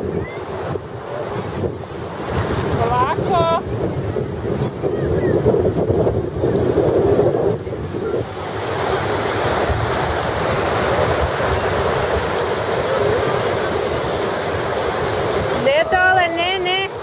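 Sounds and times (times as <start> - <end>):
surf waves washing on sand: 0.0 - 17.0
wind buffeting microphone: 0.0 - 17.0.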